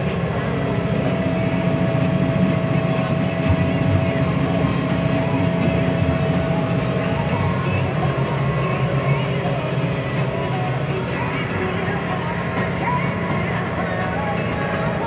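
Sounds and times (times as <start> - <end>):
steady whine: 0.0 - 15.0
tractor diesel engine drone: 0.0 - 15.0.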